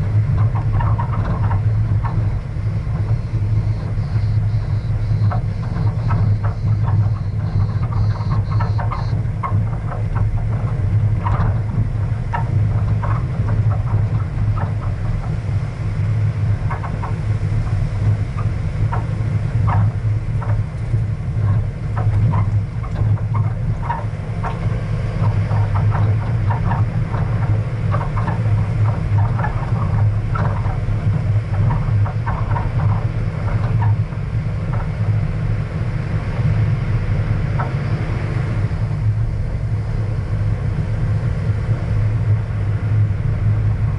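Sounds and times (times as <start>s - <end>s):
vehicle engine hum: 0.0s - 43.9s.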